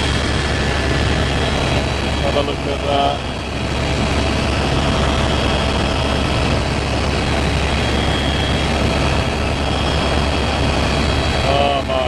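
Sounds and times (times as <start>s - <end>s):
faint high whine: 0.0s - 12.0s
helicopter cabin drone: 0.0s - 12.0s.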